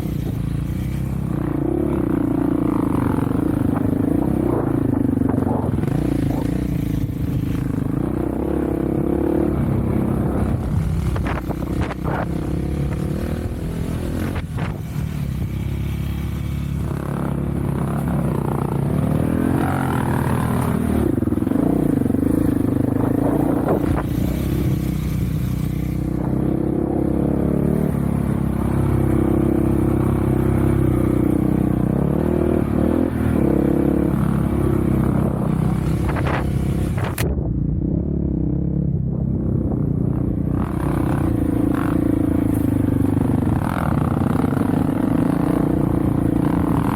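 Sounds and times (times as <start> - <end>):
off-road vehicle engine revving: 0.0 - 38.8, 40.4 - 46.9.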